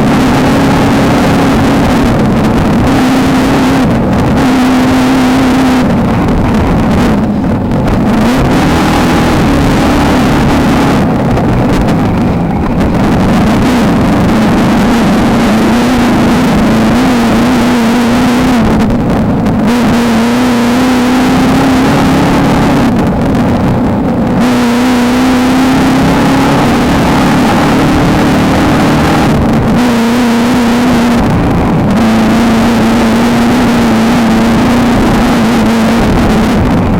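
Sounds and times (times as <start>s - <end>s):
race car engine at high revs: 0.0s - 36.9s
rough-terrain noise: 0.0s - 36.9s
wind noise: 0.0s - 36.9s.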